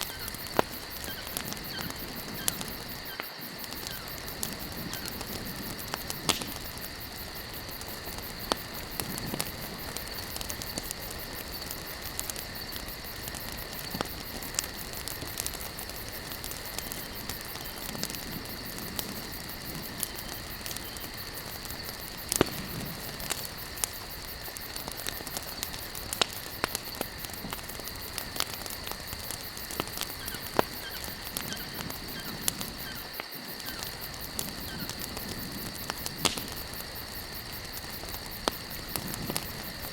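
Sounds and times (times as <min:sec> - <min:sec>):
campfire crackling and popping: 0:00.0 - 0:39.9
insect trill: 0:00.0 - 0:39.9.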